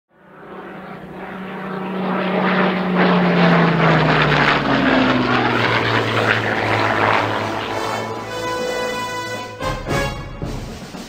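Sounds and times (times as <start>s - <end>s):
propeller aircraft engine: 0.1s - 11.0s.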